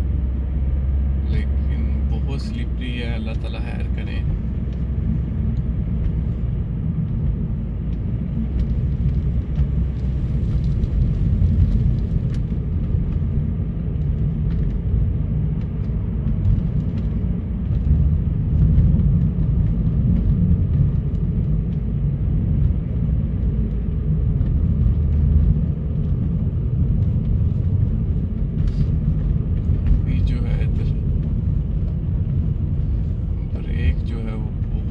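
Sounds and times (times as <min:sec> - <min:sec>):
car driving on snowy road: 0:00.0 - 0:34.9.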